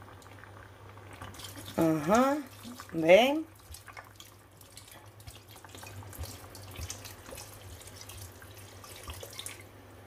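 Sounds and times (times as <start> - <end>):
broth bubbling: 0.0 - 9.7
wine pouring and splashing: 0.2 - 9.7.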